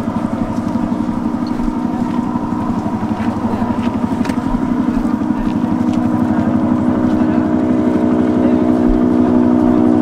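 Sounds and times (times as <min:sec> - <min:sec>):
engine hum: 0:00.0 - 0:10.0
helicopter rotor chopping: 0:00.0 - 0:10.0.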